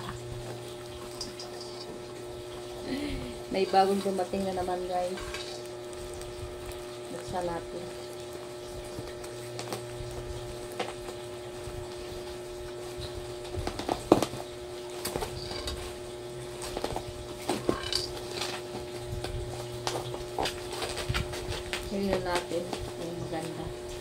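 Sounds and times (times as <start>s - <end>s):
steady low hum: 0.0s - 24.0s
plastic wrapping crinkling: 2.8s - 23.7s.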